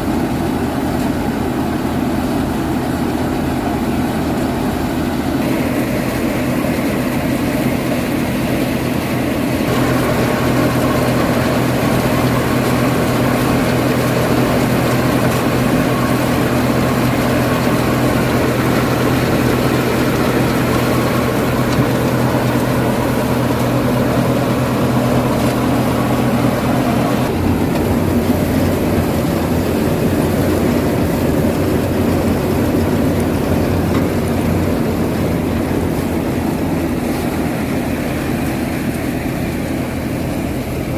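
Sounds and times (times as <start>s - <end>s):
tractor diesel engine and thresher: 0.0s - 40.9s.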